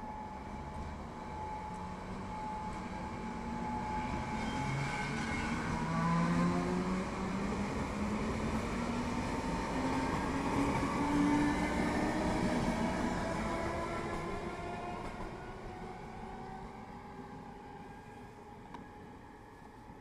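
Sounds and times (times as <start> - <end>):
train wheels rumbling on track: 0.0 - 17.8.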